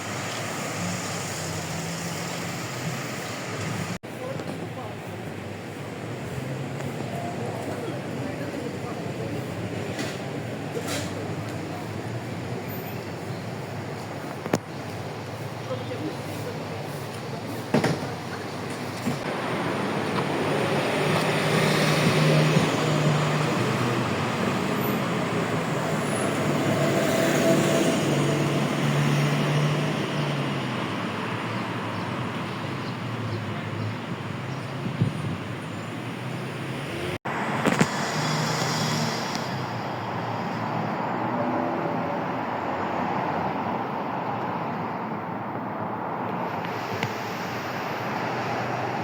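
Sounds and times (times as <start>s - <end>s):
car engines running: 0.0s - 49.0s
cars passing: 0.0s - 49.0s
road noise: 0.0s - 49.0s.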